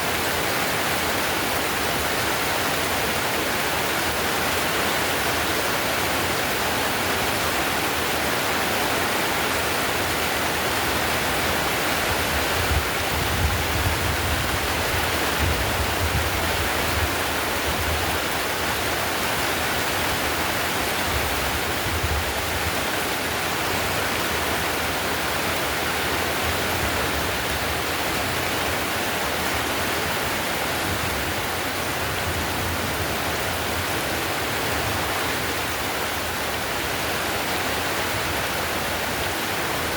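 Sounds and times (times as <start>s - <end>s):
heavy rain on a tiled roof: 0.0s - 39.9s.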